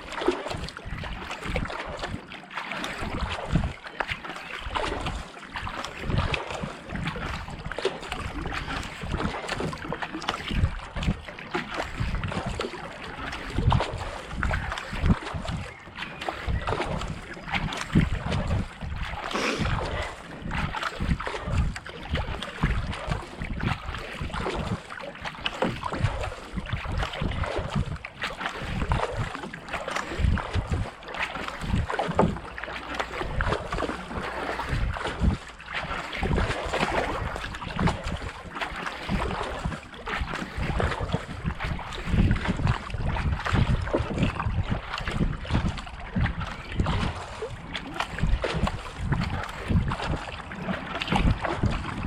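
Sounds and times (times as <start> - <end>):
kayak paddle splashing water: 0.0 - 52.0
wind rumble on microphone: 0.0 - 52.0.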